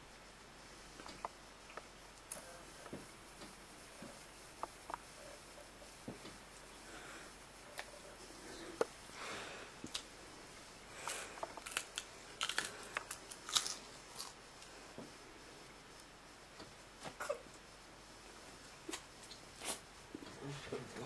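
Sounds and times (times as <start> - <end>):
bedding rustling: 0.0 - 21.0.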